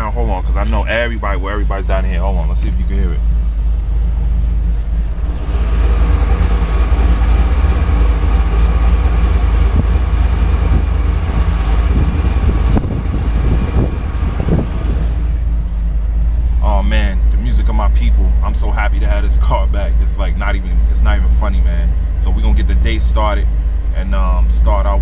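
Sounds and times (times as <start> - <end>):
car engine rumbling: 0.0 - 25.0
supercharger whine: 0.0 - 25.0.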